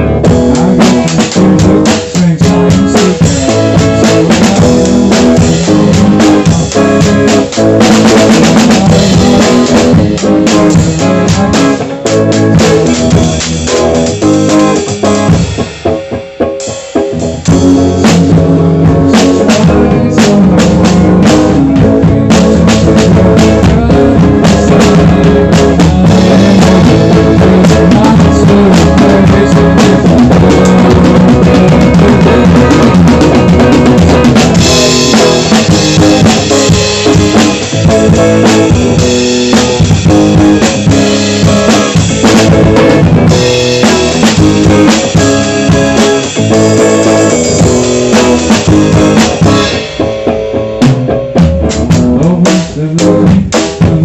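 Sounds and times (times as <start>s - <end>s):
snare drum: 0.0s - 16.0s, 16.8s - 50.1s
bass drum: 0.0s - 54.0s
live band playing: 0.0s - 54.0s.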